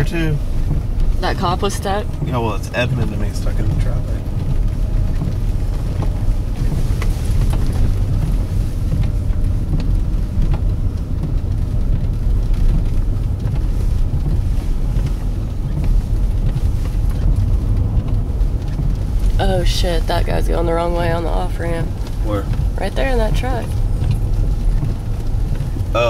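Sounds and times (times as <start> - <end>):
car driving rumble inside cabin: 0.0 - 26.0.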